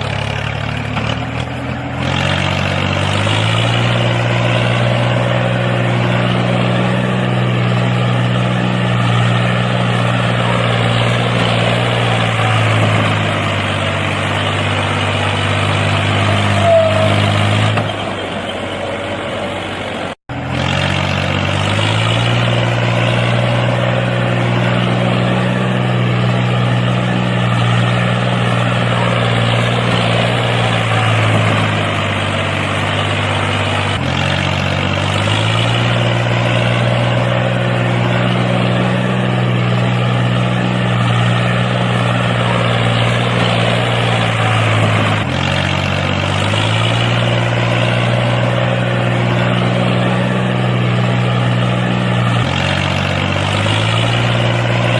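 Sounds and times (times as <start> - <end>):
tractor engine drone: 0.0 - 54.9.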